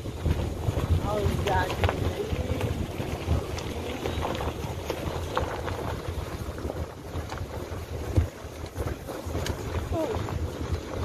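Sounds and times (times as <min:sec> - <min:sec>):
low vehicle rumble: 0:00.0 - 0:11.0
wind buffeting microphone: 0:00.0 - 0:11.0.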